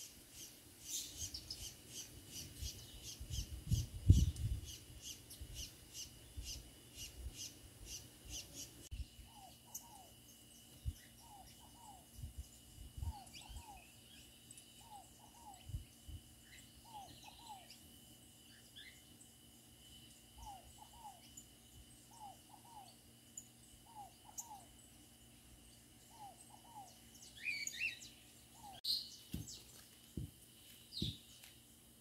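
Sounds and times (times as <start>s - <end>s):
birds chirping: 0.0s - 31.6s.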